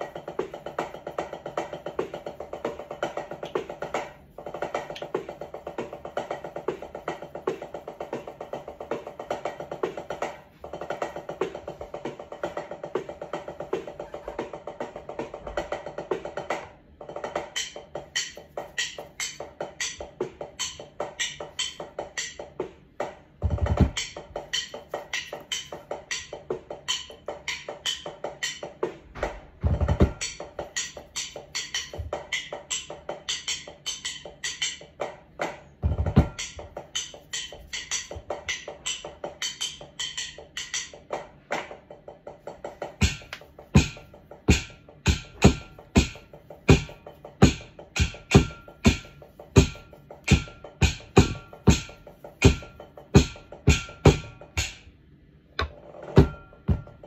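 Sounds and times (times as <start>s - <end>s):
snare drum strokes: 0.0s - 55.0s.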